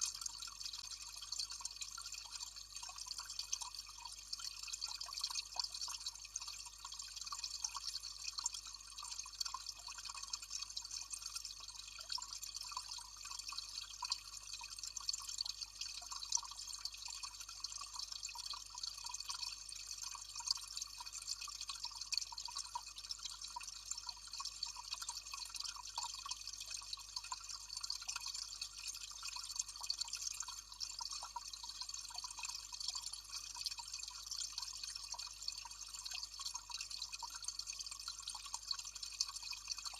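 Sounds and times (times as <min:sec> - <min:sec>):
fine water drips: 0:00.0 - 0:39.9
water trickling in cascade: 0:00.0 - 0:39.9.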